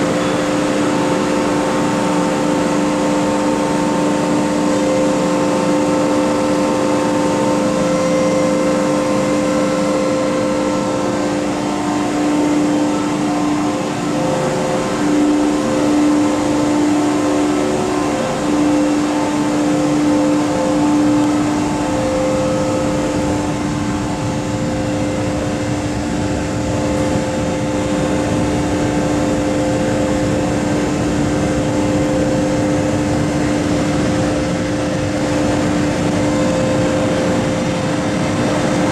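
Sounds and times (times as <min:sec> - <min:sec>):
electric train rumble: 0:00.0 - 0:38.9
steady whining tones: 0:00.0 - 0:38.9.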